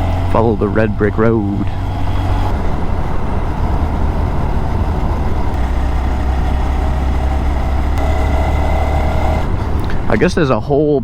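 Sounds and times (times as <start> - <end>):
small motorcycle engine running: 0.0 - 10.4.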